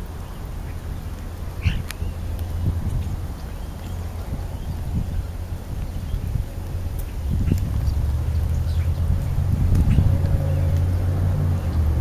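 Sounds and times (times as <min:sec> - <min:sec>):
wind on microphone: 0:00.0 - 0:12.0
bird chirp: 0:00.2 - 0:12.0.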